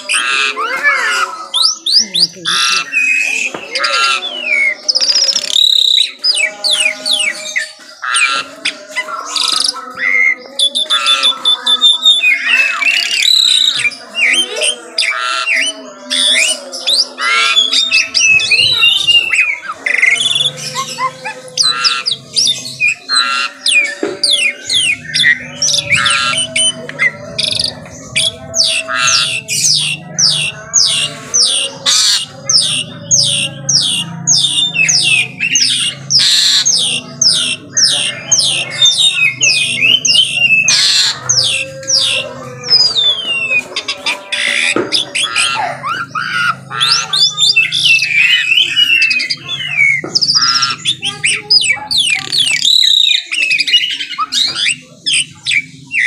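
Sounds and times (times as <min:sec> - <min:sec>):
starling singing: 0:00.0 - 0:56.0.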